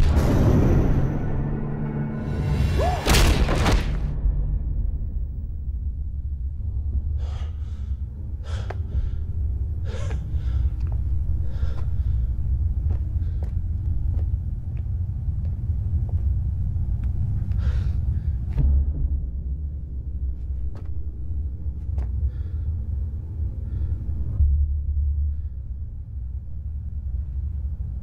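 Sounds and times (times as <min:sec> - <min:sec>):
steady low rumble: 0:03.6 - 0:28.0.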